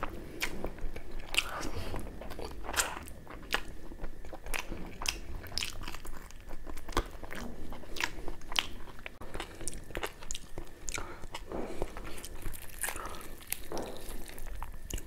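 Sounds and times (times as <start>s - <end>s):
biting and chewing: 0.0s - 15.0s.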